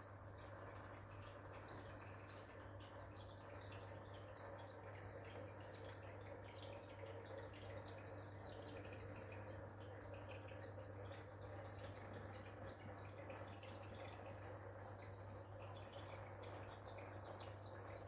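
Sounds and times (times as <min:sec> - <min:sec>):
aquarium filter hum: 0:00.0 - 0:18.0
trickling dripping water: 0:00.0 - 0:18.0.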